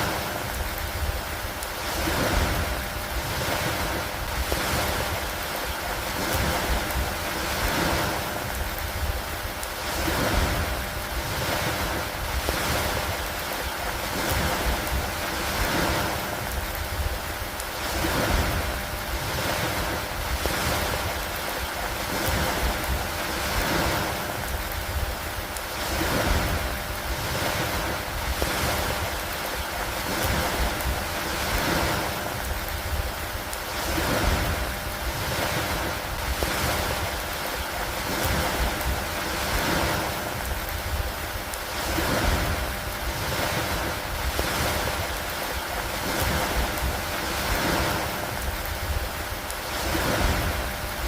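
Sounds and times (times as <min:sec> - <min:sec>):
low fluttering rumble: 0:00.0 - 0:51.0
rainfall hiss: 0:00.0 - 0:51.0
wind noise: 0:00.0 - 0:51.0.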